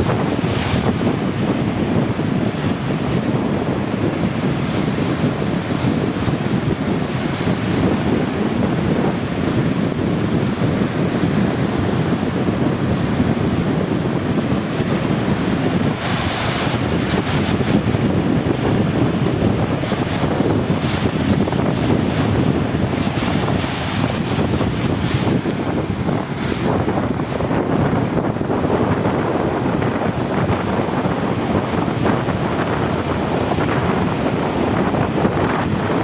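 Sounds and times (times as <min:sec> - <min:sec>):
sea waves washing: 0:00.0 - 0:36.0
wind buffeting microphone: 0:00.0 - 0:36.0.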